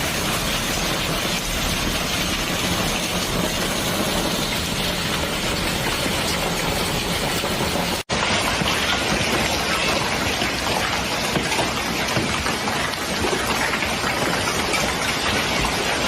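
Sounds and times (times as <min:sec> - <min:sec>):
heavy rain downpour: 0:00.0 - 0:16.0.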